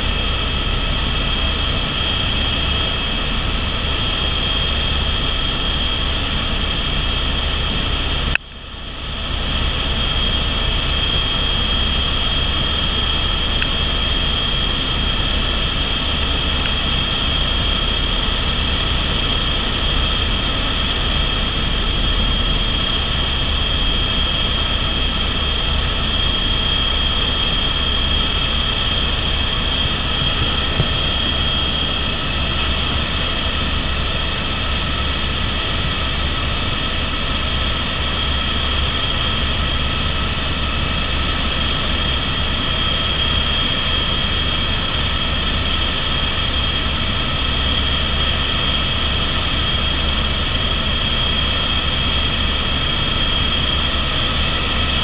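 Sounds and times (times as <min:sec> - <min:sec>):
helicopter high-pitched whine: 0:00.0 - 0:55.0
low rotor drone: 0:00.0 - 0:55.0.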